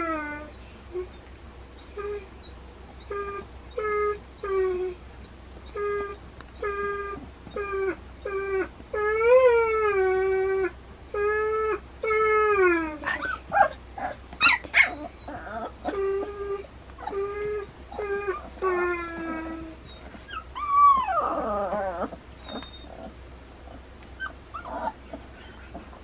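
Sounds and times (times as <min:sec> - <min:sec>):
puppies whining and yelping: 0:00.0 - 0:26.0.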